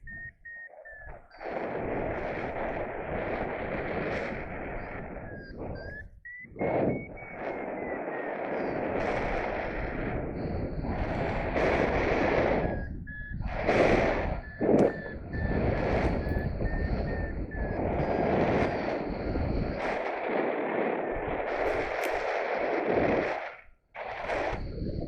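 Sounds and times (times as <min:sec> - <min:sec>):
variometer electronic beeping: 0:00.0 - 0:25.0
wind buffeting microphone: 0:00.0 - 0:25.0.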